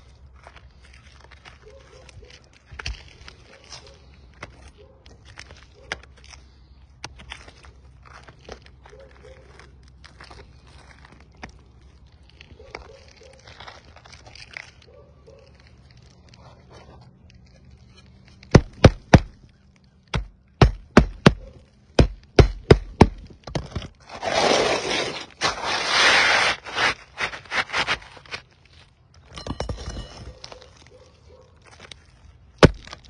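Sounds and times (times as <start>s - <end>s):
scraping: 0.0s - 20.1s, 23.4s - 33.0s.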